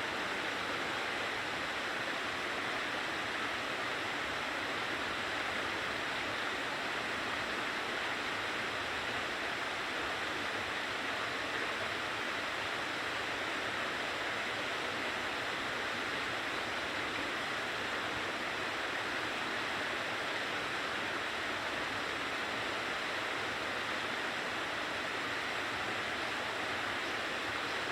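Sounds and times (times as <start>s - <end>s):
rushing waterfall: 0.0s - 27.9s.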